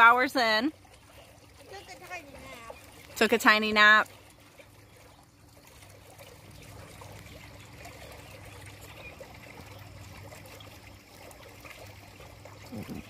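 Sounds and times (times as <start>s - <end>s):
low steady hum: 0.0s - 13.0s
pool water trickling: 0.0s - 13.0s.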